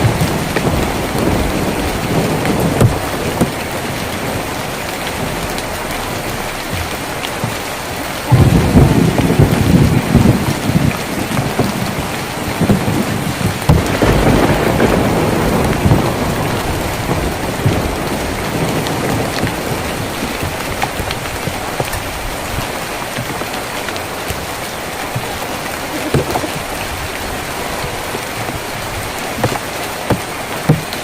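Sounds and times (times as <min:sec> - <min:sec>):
low thunder rumble: 0:00.0 - 0:29.3
rain on a tin roof: 0:00.0 - 0:31.0.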